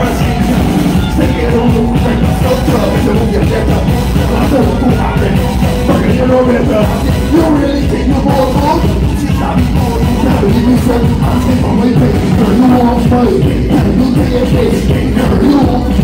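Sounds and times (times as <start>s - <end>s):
man singing into a microphone: 0.0s - 16.0s
soca music over loudspeakers: 0.0s - 16.0s.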